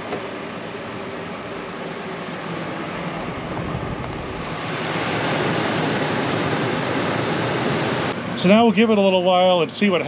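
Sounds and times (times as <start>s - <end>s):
air conditioner fan blowing: 0.0s - 10.0s.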